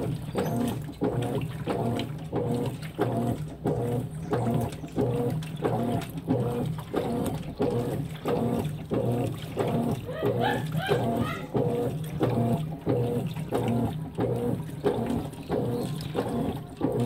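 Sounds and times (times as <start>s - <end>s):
washing machine motor humming: 0.0s - 17.0s
water sloshing: 0.0s - 17.0s.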